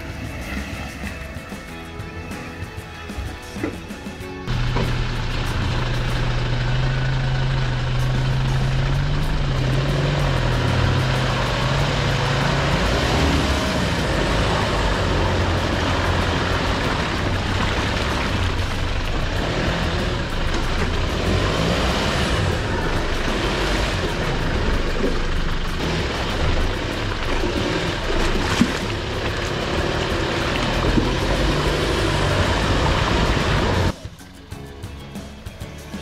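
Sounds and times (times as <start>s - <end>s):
vehicle engine running low: 4.4s - 34.4s.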